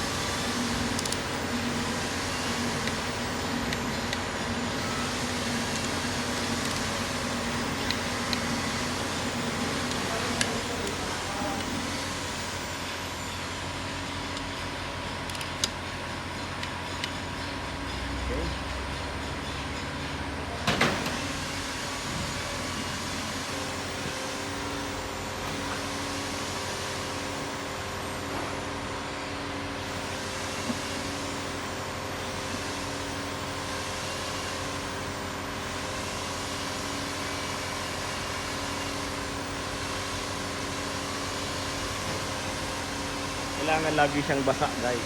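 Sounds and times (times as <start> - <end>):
machinery humming: 0.0 - 45.0.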